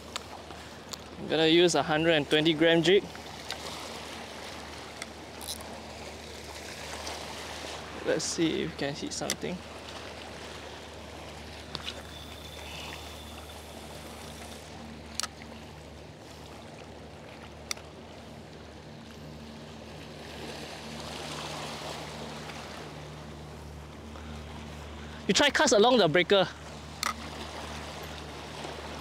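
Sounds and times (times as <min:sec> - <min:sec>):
low hum: 0:00.0 - 0:29.0
waves lapping on rocks: 0:00.0 - 0:29.0.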